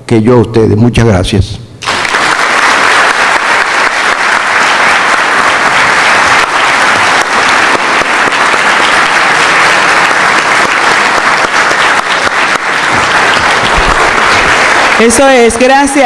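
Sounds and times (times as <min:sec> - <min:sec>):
audience applause: 0:01.8 - 0:16.0.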